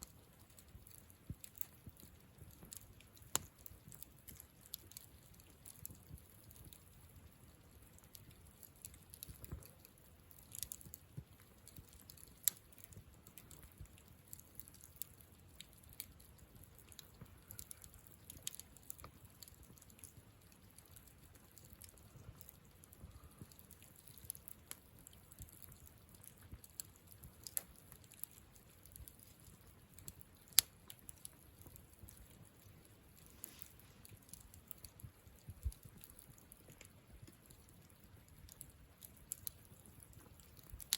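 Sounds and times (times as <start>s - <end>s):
campfire crackling and popping: 0.0s - 40.9s
faint fire hiss: 0.0s - 40.9s.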